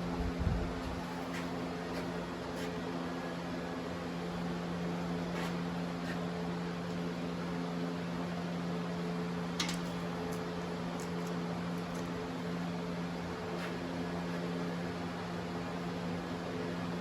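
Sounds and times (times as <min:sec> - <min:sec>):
welder cooling fan humming: 0:00.0 - 0:17.0.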